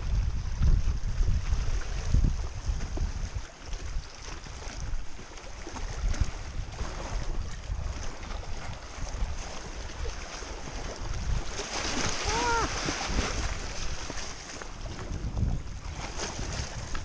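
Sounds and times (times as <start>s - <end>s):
lake waves lapping on rocks: 0.0s - 17.0s
wind buffeting microphone: 0.0s - 17.0s.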